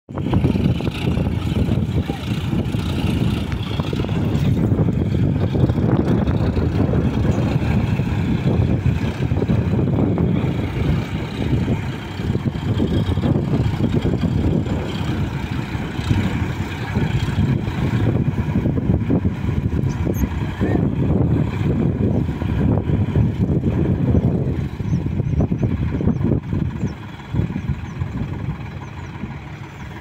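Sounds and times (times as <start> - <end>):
tractor diesel engines under load: 0.1 - 30.0.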